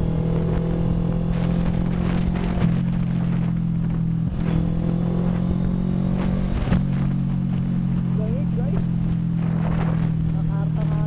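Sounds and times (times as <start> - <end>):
motorcycle engine droning: 0.0 - 11.0
wind buffeting the microphone: 0.0 - 11.0.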